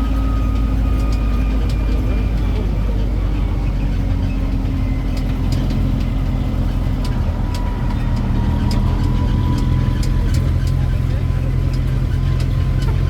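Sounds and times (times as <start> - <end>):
road train engine running: 0.0 - 13.0.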